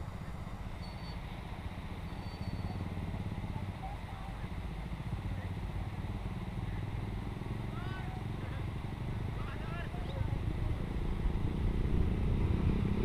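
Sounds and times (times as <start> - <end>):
small engine rumbling: 0.0 - 13.0.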